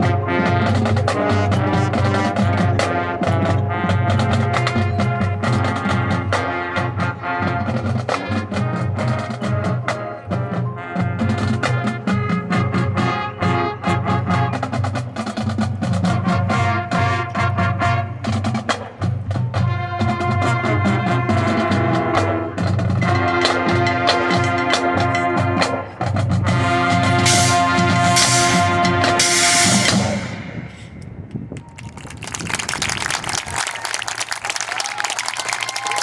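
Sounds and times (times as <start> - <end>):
sustained brass chords: 0.0 - 18.6, 19.5 - 30.9
drum-line hits: 0.0 - 30.9.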